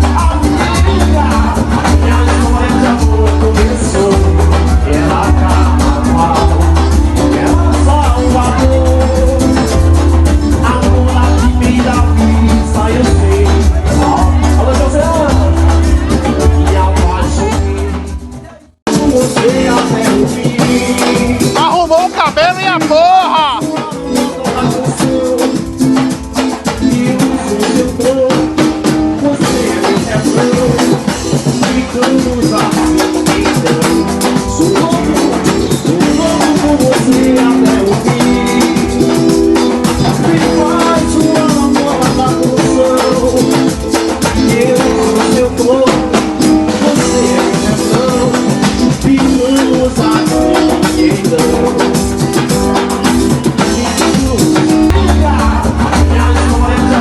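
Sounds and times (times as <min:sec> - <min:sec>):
band music: 0:00.0 - 0:57.0
dense drumming: 0:00.0 - 0:57.0
guitar: 0:00.0 - 0:57.0
person singing: 0:00.0 - 0:57.0.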